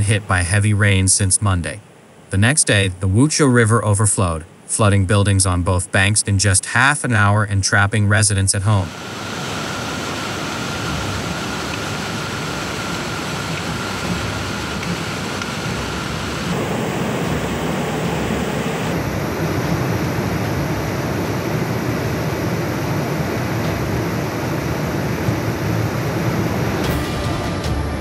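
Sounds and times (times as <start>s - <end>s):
dam spillway discharging: 0.0s - 27.0s
river torrent rushing: 0.0s - 27.0s.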